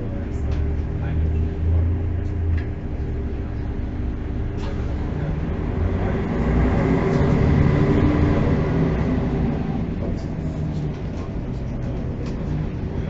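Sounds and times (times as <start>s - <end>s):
bus diesel engine hum: 0.0s - 13.0s
road noise: 0.0s - 13.0s.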